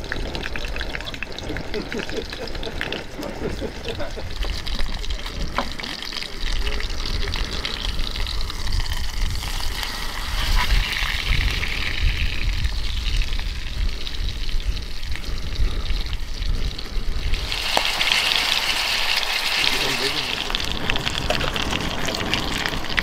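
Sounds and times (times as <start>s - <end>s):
meat sizzling in a pan: 0.0s - 23.0s
wind rumble on microphone: 0.0s - 23.0s.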